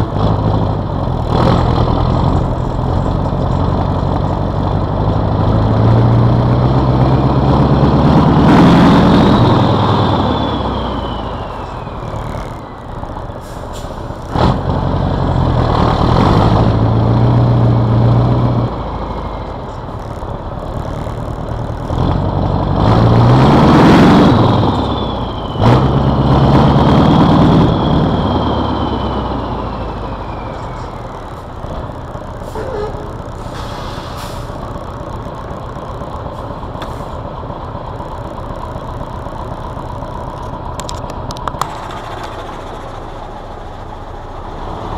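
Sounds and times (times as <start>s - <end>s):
diesel truck engine revving: 0.0s - 44.9s.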